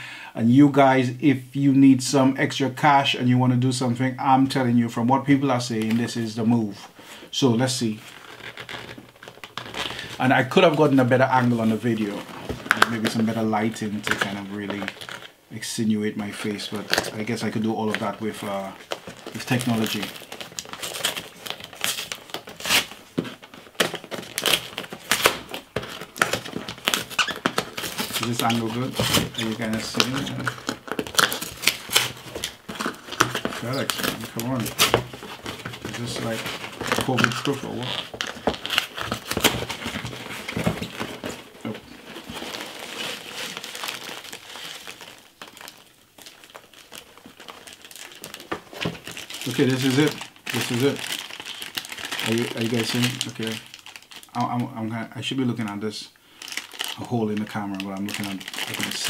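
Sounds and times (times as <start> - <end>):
cardboard ripping and crinkling: 7.8 - 15.3, 16.2 - 54.6, 56.4 - 59.0.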